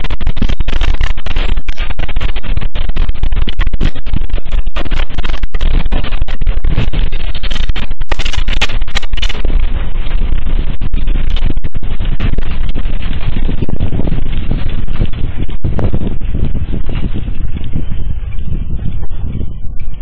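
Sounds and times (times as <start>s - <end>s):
distorted earthquake rumble and rattle: 0.0s - 20.0s.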